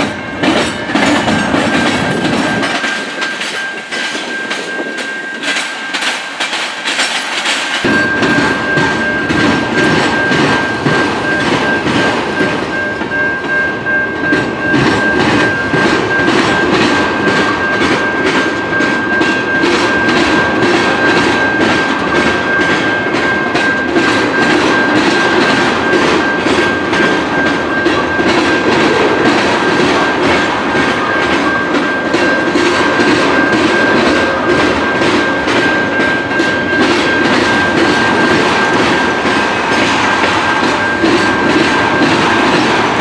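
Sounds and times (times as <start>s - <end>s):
railroad cars rumbling: 0.0s - 43.0s
train wheels clicking on track: 0.0s - 43.0s.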